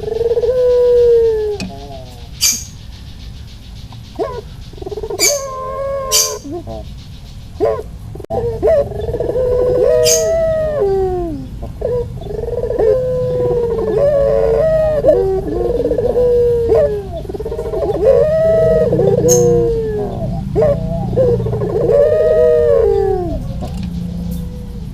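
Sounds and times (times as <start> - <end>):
doves cooing: 0.0 - 2.9, 4.0 - 6.9, 7.6 - 24.9.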